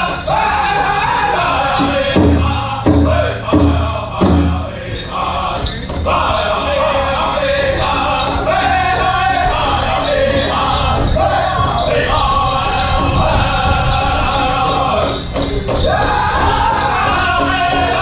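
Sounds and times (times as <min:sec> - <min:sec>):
group singing together: 0:00.0 - 0:18.0
large drum beat: 0:00.0 - 0:18.0.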